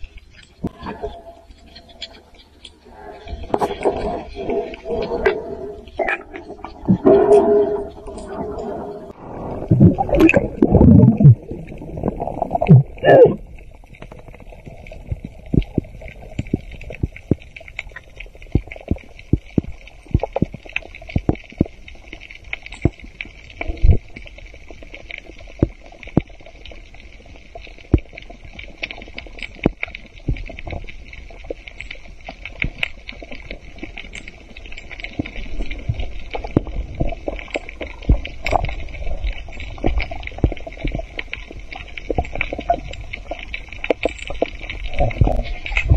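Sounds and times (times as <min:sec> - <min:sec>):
sharp underwater clicks and crackles: 0:00.0 - 0:45.9
steady underwater hiss: 0:00.0 - 0:45.9
underwater bubbling gurgle: 0:00.0 - 0:45.9.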